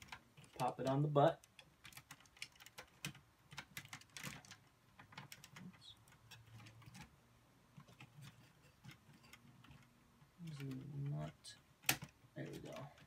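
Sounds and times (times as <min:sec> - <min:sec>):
plastic toy parts clicking: 0:00.0 - 0:07.1, 0:07.8 - 0:13.0.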